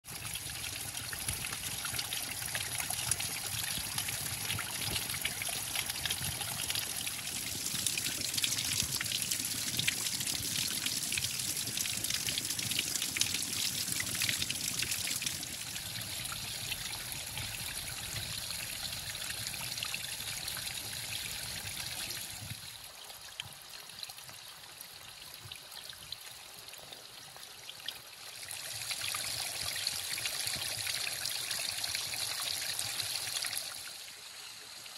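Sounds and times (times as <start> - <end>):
small waterfall trickling: 0.0 - 34.9.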